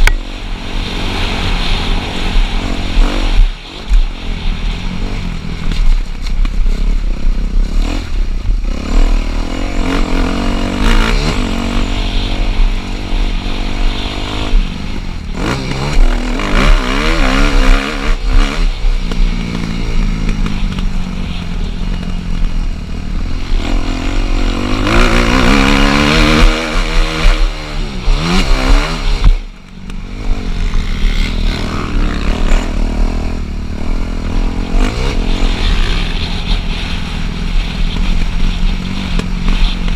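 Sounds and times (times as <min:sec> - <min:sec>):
motocross bike engine revving: 0:00.0 - 0:06.0, 0:06.6 - 0:39.9.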